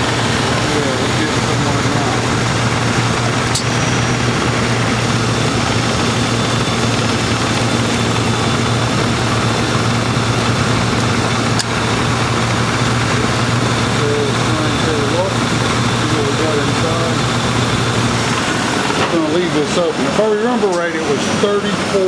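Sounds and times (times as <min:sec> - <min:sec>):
air-conditioning compressor running: 0:00.0 - 0:22.0
car engine idling: 0:00.0 - 0:22.0.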